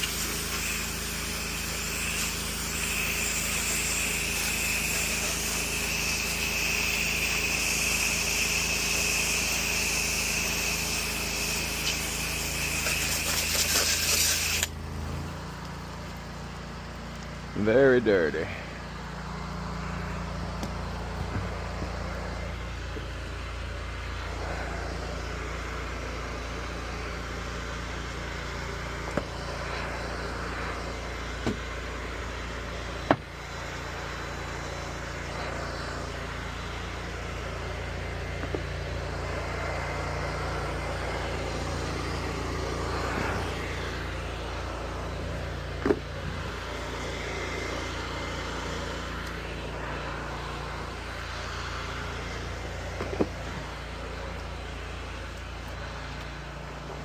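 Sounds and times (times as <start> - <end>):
water spraying on siding: 0.0 - 17.5, 19.2 - 57.0
pressure washer engine running: 0.0 - 57.0.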